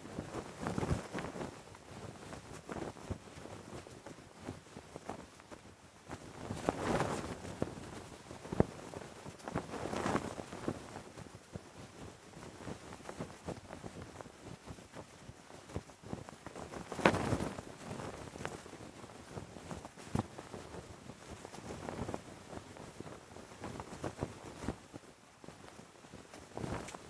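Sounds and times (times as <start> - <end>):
cloth flag flapping in wind: 0.0 - 27.0.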